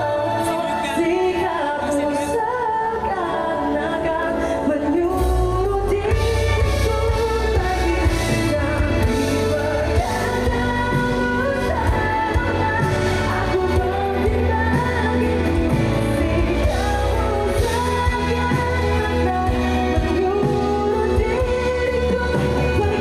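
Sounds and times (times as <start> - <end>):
band with bass and drums: 0.0 - 23.0
woman singing amplified: 0.0 - 23.0.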